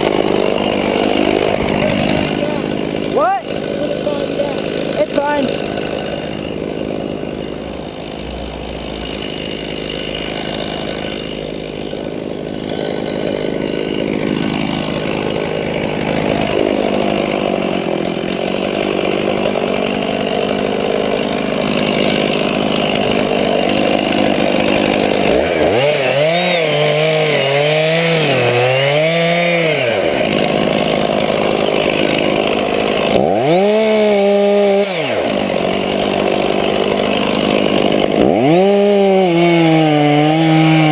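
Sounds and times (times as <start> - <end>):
chainsaw running and revving: 0.0 - 40.9.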